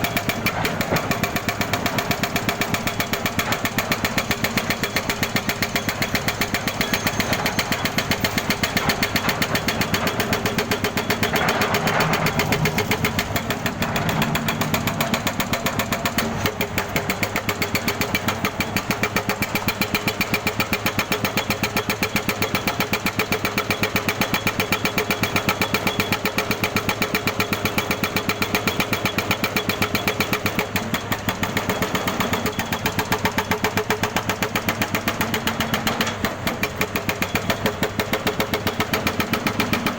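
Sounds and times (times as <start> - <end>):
jackhammer hammering: 0.0 - 39.9.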